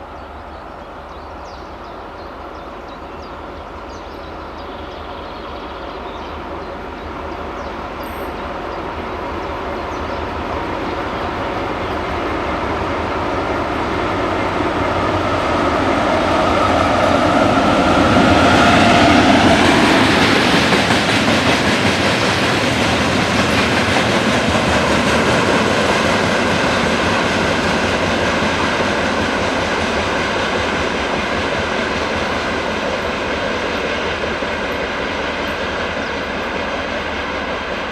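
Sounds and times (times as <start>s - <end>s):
diesel locomotive engine passing: 0.0s - 37.9s
train wheels on rails: 0.0s - 37.9s.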